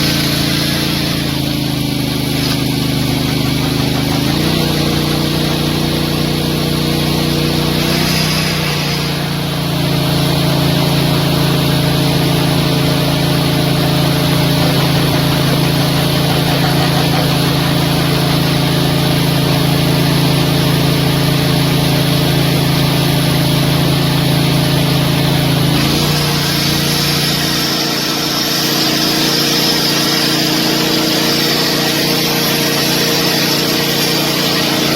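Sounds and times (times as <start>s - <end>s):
heavy machinery engine running: 0.0s - 34.9s.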